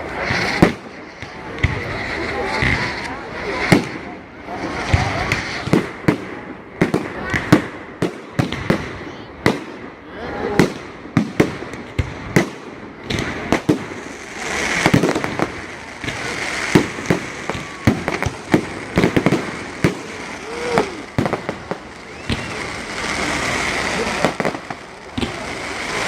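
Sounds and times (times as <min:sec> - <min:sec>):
fireworks bangs: 0:00.0 - 0:26.0
fireworks crackle: 0:00.0 - 0:26.0.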